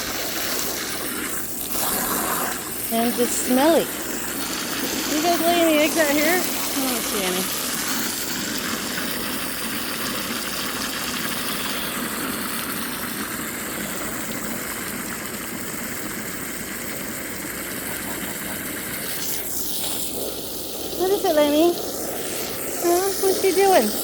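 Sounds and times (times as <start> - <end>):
water running into container: 0.0 - 24.0.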